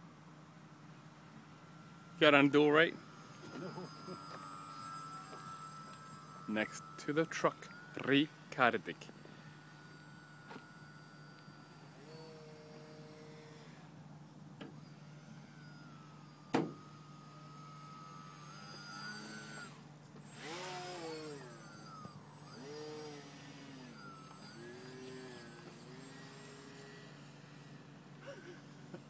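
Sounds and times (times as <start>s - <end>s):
model plane motor whining: 0.0s - 29.0s
steady low hum: 0.0s - 29.0s.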